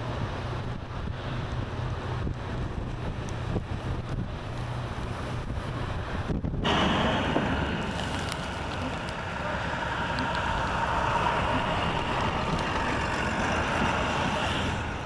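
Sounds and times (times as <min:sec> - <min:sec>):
blizzard wind rushing: 0:00.0 - 0:15.0
tyres on snowy road: 0:00.0 - 0:15.0.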